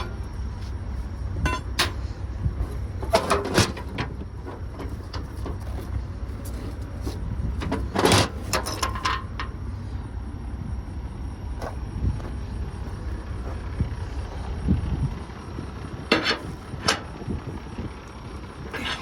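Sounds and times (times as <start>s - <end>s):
vehicle rumble: 0.0s - 19.0s
clanks and rattles: 1.3s - 9.6s, 11.6s - 19.0s.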